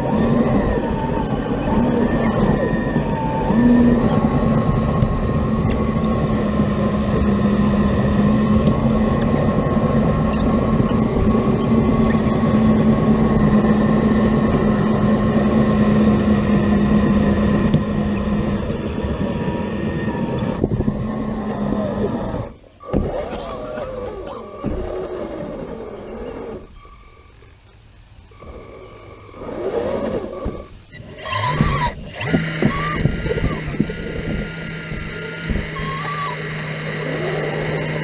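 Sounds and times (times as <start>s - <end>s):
excavator engine and hydraulics hum: 0.0s - 38.0s.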